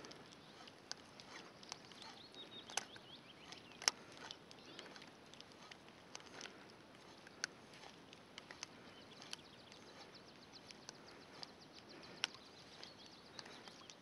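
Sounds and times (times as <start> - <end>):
tackle clicks: 0.0 - 14.0.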